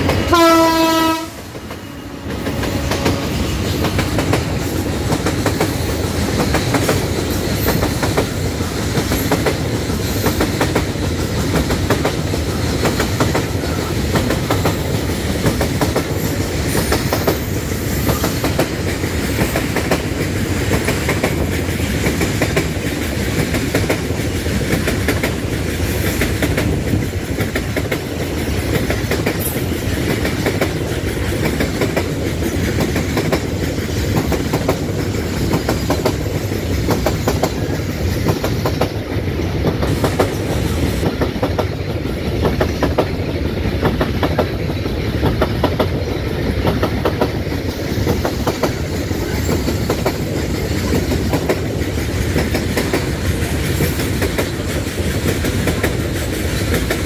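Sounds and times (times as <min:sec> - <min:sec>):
steel wheels clattering over rail joints: 0:01.4 - 0:57.0.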